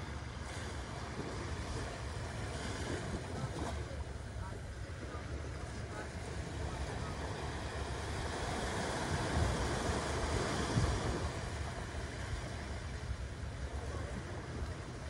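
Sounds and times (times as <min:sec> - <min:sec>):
small waves breaking on beach: 0:00.0 - 0:15.0
wind rumble on microphone: 0:00.0 - 0:15.0.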